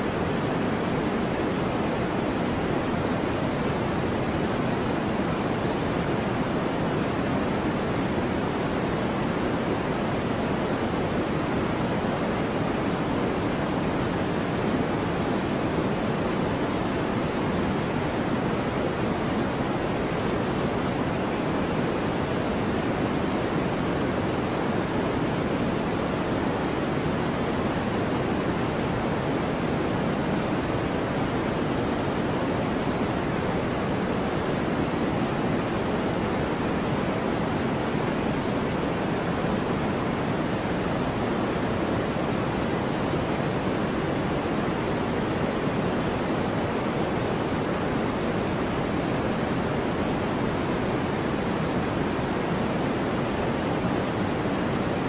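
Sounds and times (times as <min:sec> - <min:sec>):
steady white noise: 0:00.0 - 0:55.0.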